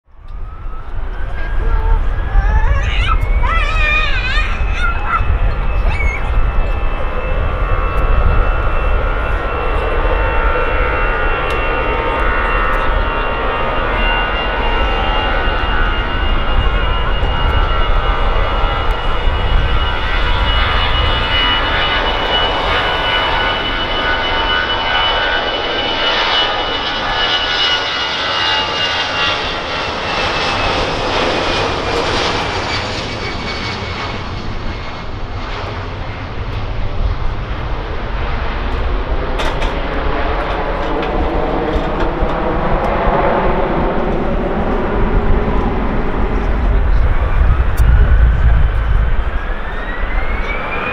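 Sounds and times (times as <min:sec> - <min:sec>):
jet engines at takeoff thrust: 0:00.1 - 0:50.9.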